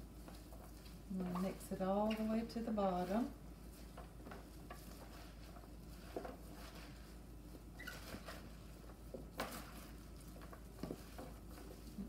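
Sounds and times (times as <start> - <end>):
vegetables rustling and crunching: 0.0 - 12.0.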